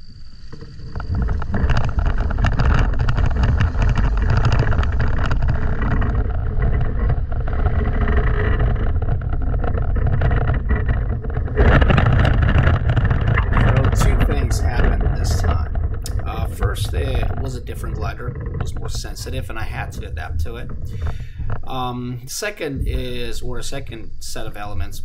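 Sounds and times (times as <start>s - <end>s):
wheels rumbling over grass: 0.0s - 25.0s
wind buffeting a microphone: 0.6s - 25.0s.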